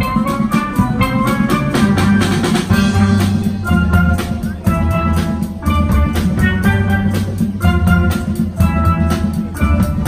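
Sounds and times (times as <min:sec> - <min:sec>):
steel pan band playing: 0:00.0 - 0:10.0.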